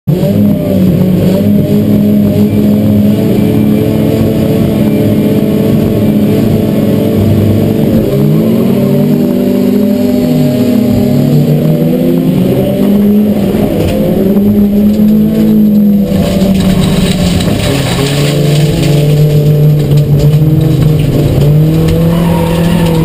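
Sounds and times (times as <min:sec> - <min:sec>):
race car engine revving: 0:00.1 - 0:23.0.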